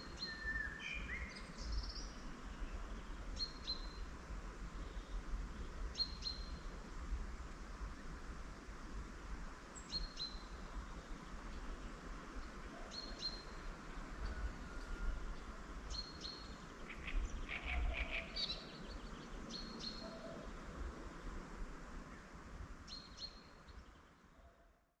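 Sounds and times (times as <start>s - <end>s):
songbirds chirping: 0.0s - 24.9s.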